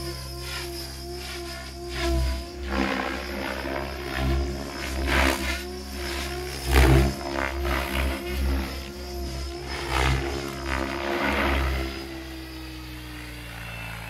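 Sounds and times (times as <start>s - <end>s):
model helicopter rotor whine: 0.0s - 14.0s.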